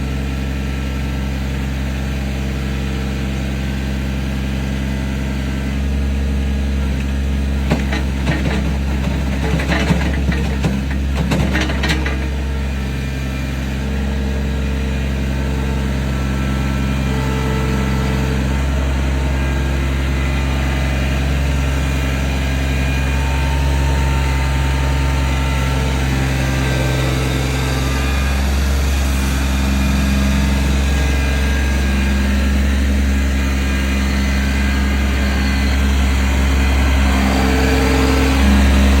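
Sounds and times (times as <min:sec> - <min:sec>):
engine rumbling: 0:03.4 - 0:39.0.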